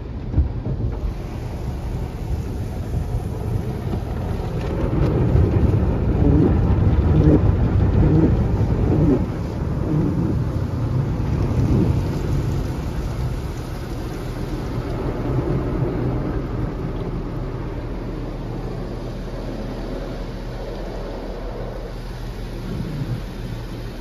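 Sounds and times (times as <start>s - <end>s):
water spray hitting car roof: 0.1s - 24.0s.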